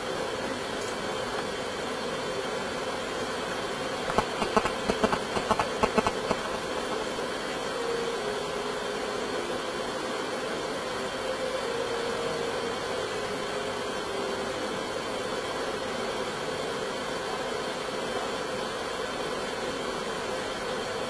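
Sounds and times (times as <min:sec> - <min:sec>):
steady hiss: 0:00.0 - 0:17.4
faint hum: 0:00.0 - 0:21.0.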